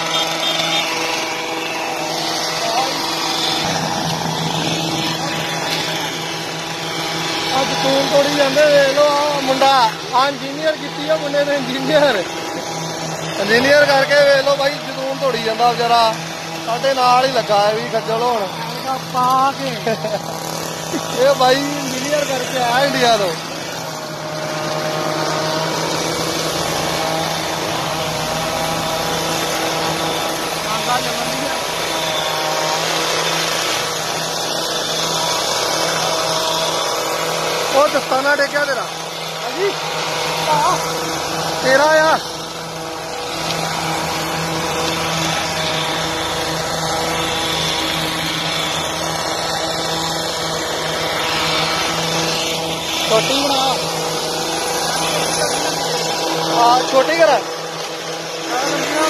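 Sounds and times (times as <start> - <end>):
hissing noise: 0.0 - 59.0
small engine running: 0.0 - 59.0.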